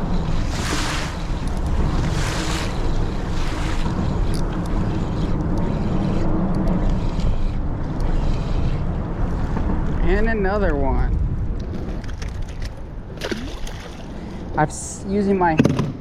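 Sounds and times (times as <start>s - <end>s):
wind buffeting microphone: 0.0s - 14.7s.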